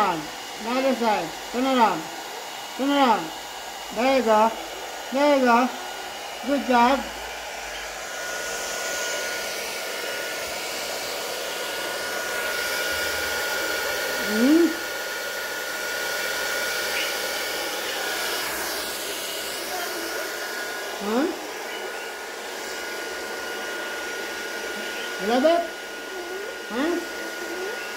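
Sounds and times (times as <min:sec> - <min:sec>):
hair dryer blowing: 0:00.0 - 0:27.9.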